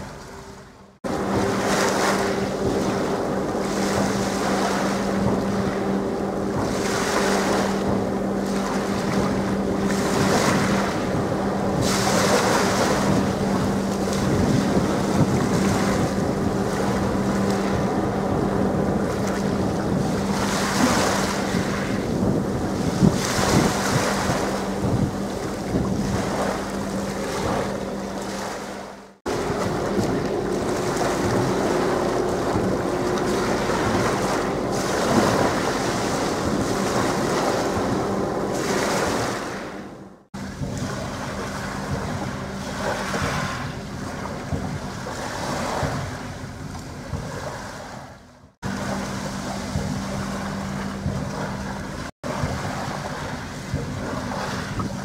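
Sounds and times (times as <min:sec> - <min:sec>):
churning water: 0:00.0 - 0:55.0
low engine hum: 0:00.0 - 0:55.0
wind buffeting microphone: 0:01.0 - 0:55.0.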